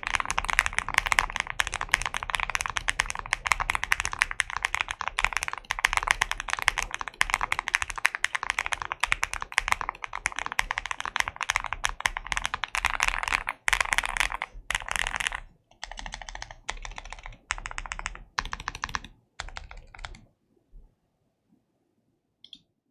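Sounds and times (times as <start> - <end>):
mechanical keyboard typing: 0.0 - 20.3.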